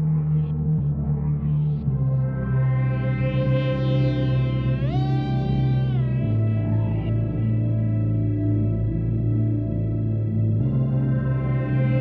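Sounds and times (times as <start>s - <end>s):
ambient synthesizer music: 0.0s - 12.0s.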